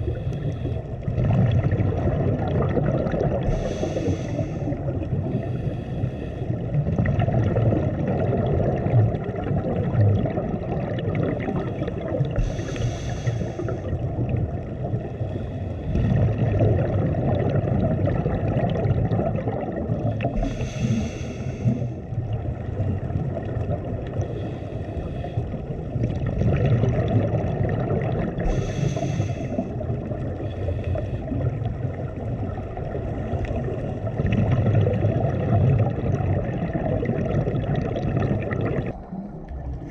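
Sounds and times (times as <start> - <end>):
scuba regulator exhaust bubbles: 0.0 - 39.9.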